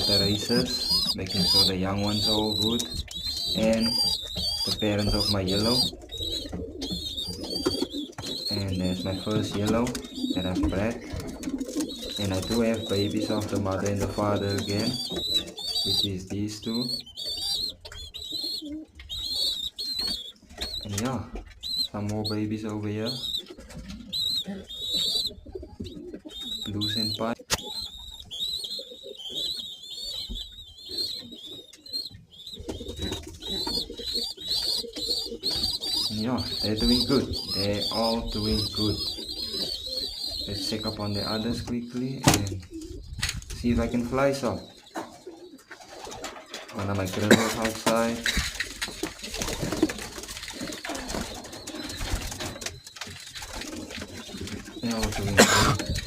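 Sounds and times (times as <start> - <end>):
pigeons cooing: 0.0 - 56.0
young pigeons squeaking: 0.0 - 56.0.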